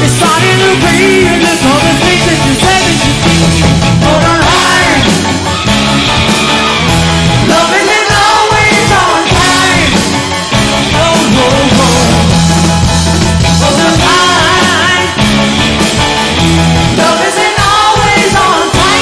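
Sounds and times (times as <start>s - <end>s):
person singing: 0.0s - 15.4s, 16.9s - 19.0s
rock band playing live: 0.0s - 19.0s.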